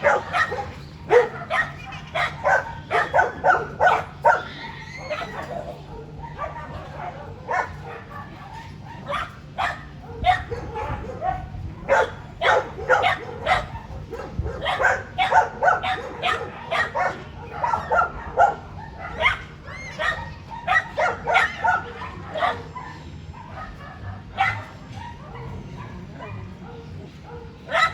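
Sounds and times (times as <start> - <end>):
dog yips and whines: 0.0 - 26.4
dogs barking: 0.0 - 27.9.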